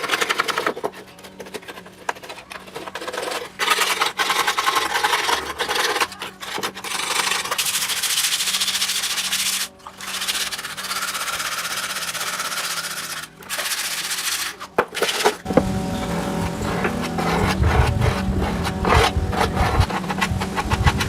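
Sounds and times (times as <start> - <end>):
sanding rubbing: 0.0 - 21.0.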